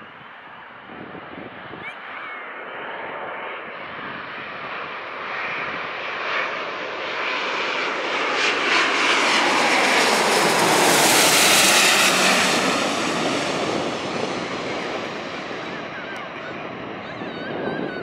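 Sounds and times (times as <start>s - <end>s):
jet airliner engine noise: 0.0s - 18.0s.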